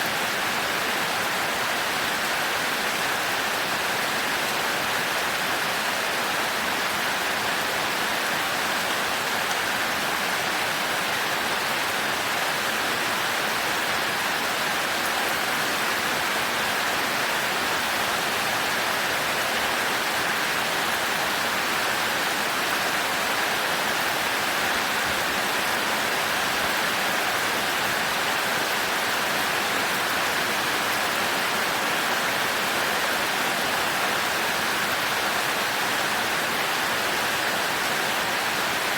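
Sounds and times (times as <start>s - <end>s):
heavy rain on a thatched roof: 0.0s - 38.9s.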